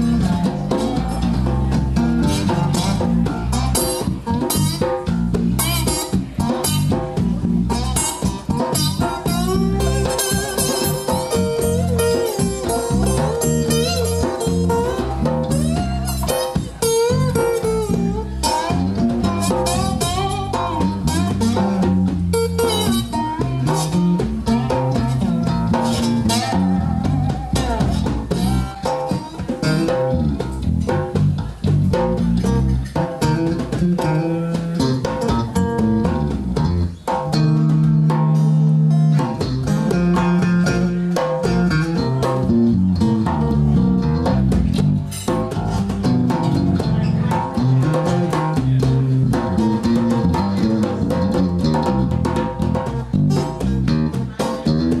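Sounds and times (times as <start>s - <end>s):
blues band playing instrumental: 0.0s - 55.0s.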